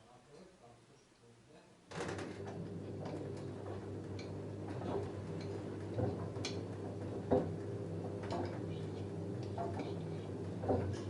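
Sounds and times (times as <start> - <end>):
washing machine motor hum: 2.0 - 11.0.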